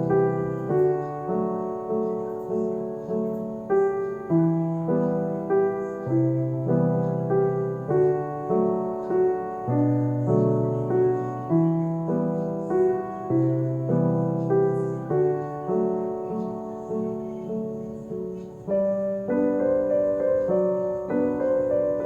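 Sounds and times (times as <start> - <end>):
slow calm piano music: 0.0 - 22.0.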